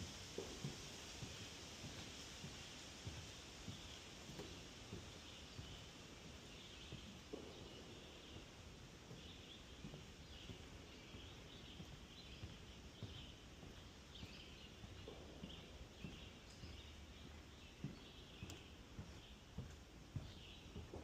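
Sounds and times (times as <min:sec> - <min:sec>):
footsteps on wooden boardwalk: 0:00.0 - 0:21.0.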